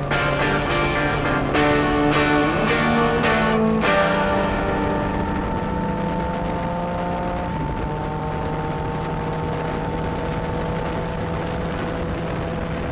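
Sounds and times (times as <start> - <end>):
motorcycle engine running: 0.0 - 12.9
wind and road noise: 0.0 - 12.9.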